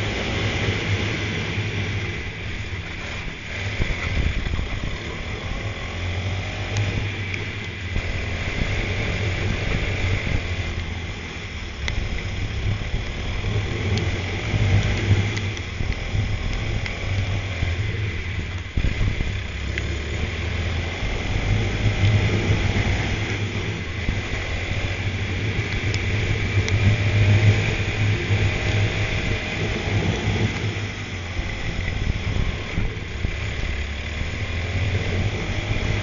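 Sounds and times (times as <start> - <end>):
go-kart engine revving: 0.0 - 36.0.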